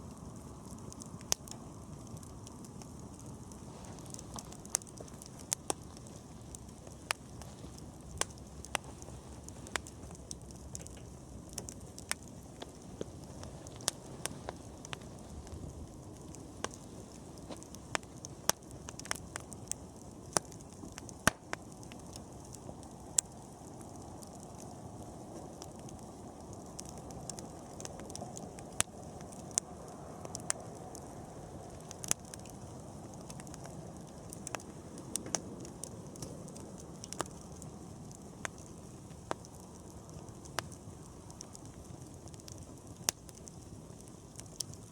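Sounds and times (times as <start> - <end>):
campfire crackling and popping: 0.0 - 44.9
low rush of burning fire: 0.0 - 44.9.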